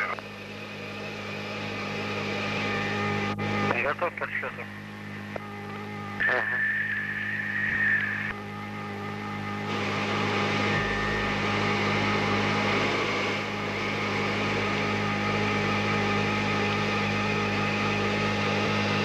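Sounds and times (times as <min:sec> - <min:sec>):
aircraft cockpit drone: 0:00.0 - 0:19.0
faint regular pulsing: 0:00.0 - 0:19.0.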